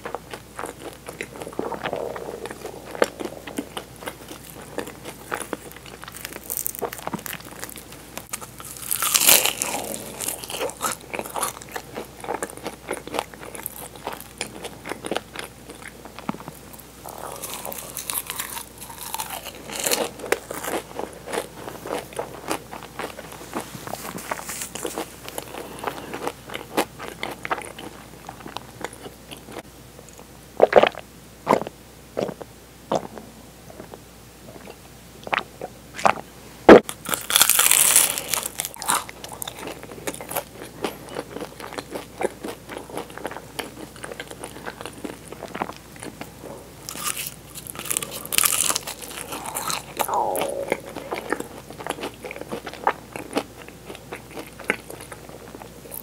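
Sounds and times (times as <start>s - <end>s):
pastry crunching: 0.0s - 29.6s, 36.8s - 56.0s
soft chewing: 0.0s - 36.2s, 36.8s - 56.0s.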